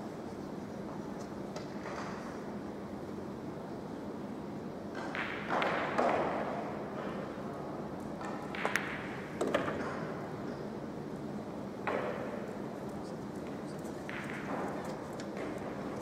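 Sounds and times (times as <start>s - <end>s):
muffled hall background noise: 0.0s - 5.1s, 5.9s - 16.0s.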